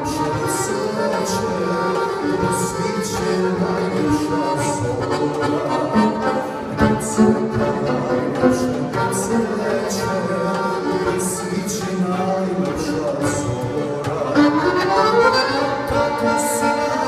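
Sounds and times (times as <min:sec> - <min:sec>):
accordion and violin folk tune: 0:00.0 - 0:17.0.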